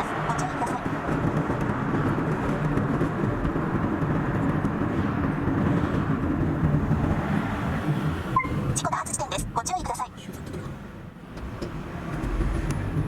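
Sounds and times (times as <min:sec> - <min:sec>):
car driving on a highway: 0:00.0 - 0:13.0.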